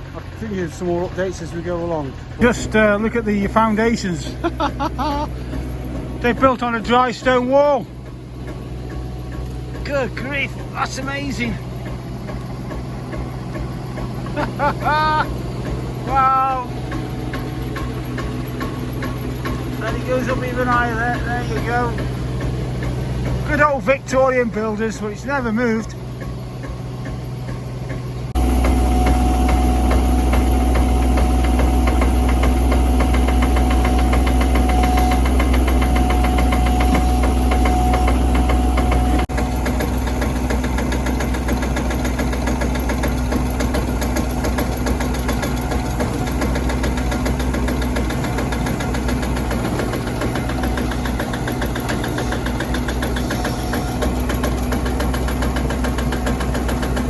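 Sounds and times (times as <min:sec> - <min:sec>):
digger engine running: 0:00.0 - 0:57.0.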